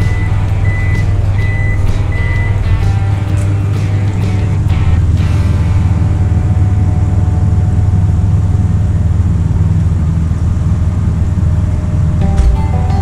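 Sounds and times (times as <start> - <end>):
dump truck engine running: 0.0 - 13.0.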